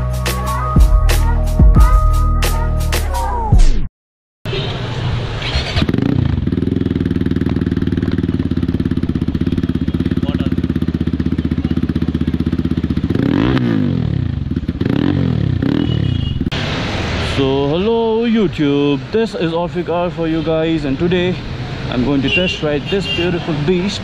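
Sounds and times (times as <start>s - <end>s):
motorcycle engine idling and revving: 4.5s - 24.0s.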